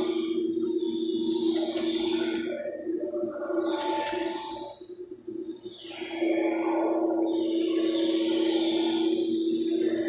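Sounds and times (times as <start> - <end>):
low drone tone: 0.0 - 10.0.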